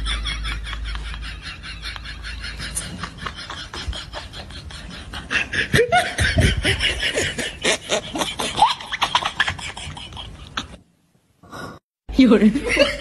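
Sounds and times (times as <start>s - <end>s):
people laughing: 0.0s - 10.8s, 12.5s - 13.0s.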